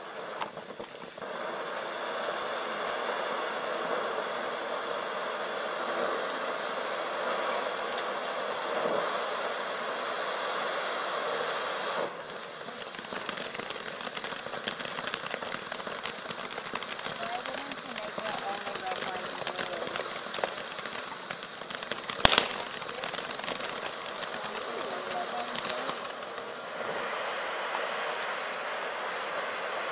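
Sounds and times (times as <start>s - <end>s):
firework crackling pops: 0.0s - 29.9s
firework fountain hissing: 0.0s - 29.9s.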